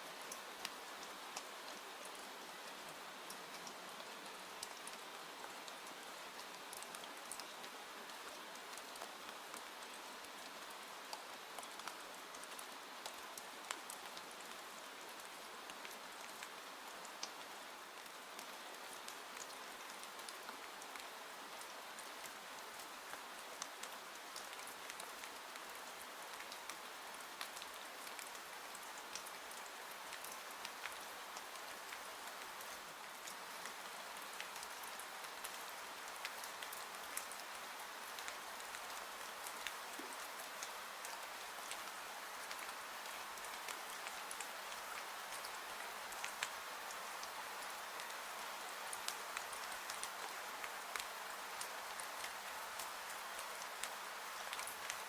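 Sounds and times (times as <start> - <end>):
rain hiss: 0.0 - 55.0.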